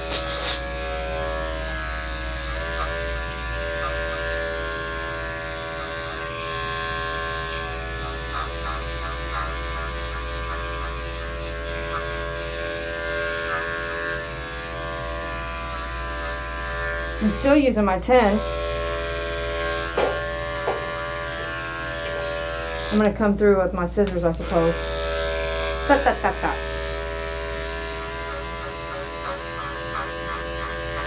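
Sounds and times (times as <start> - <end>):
electric hair clipper buzzing: 0.0 - 31.0.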